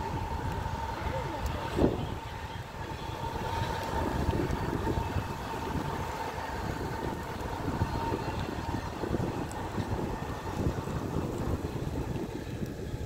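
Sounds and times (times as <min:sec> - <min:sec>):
freight wagons rumbling on rails: 0:00.0 - 0:13.0
thin steady whine: 0:00.0 - 0:13.0.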